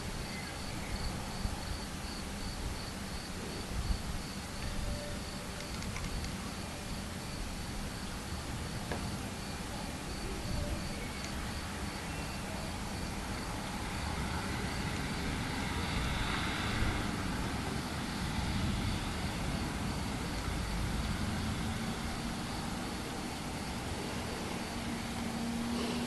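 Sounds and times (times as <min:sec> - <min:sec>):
crickets chirping: 0:00.0 - 0:26.0
steady outdoor hiss: 0:00.0 - 0:26.0.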